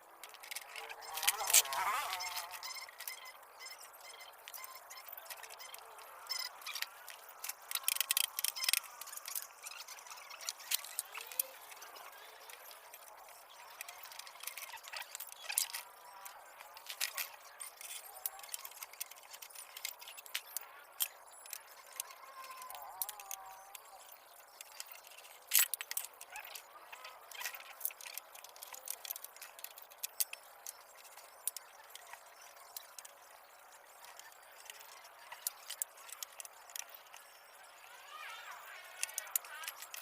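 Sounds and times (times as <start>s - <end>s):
metal clicks and clinks: 0.2s - 37.8s, 38.7s - 40.0s.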